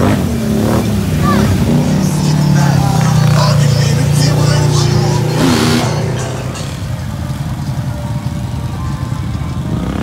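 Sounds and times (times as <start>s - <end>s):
off-road vehicle engines rumbling: 0.0s - 10.0s.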